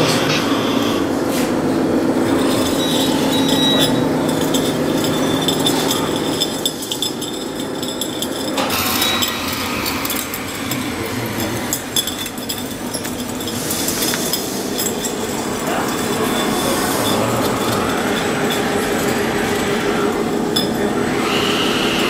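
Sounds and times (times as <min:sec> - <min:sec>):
toy roller mechanical hum: 0:02.0 - 0:22.0
light clinking and clicking: 0:02.4 - 0:20.9.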